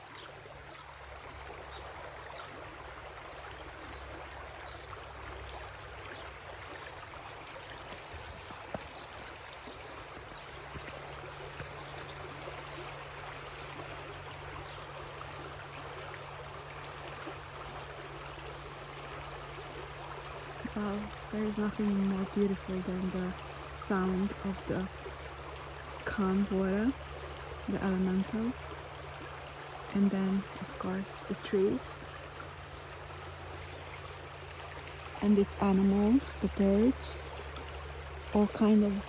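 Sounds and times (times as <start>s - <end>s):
stream trickling and gurgling: 0.0s - 39.0s.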